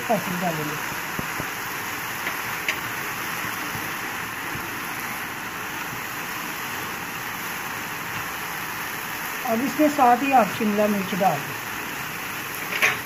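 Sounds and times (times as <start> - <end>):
vegetables sizzling in a frying pan: 0.0 - 13.0.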